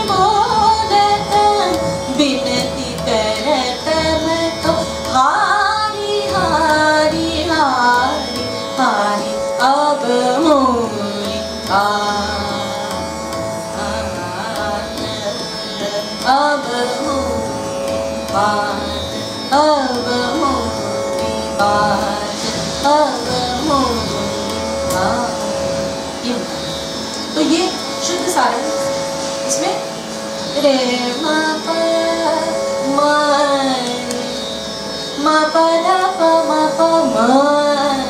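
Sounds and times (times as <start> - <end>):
tanpura drone: 0.0 - 38.0
woman singing classical vocal: 0.0 - 38.0.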